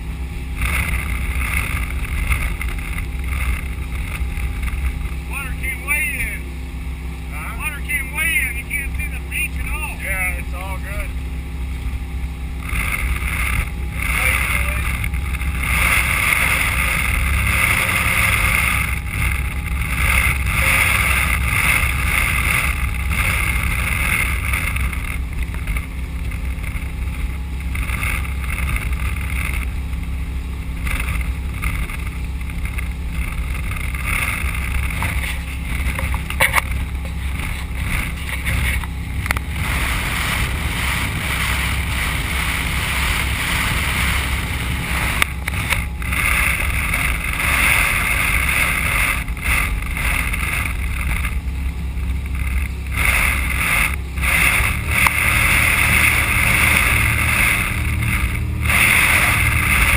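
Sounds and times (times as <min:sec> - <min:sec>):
motorboat engine drone: 0:00.0 - 0:59.9
rush of water and wind: 0:00.0 - 0:59.9.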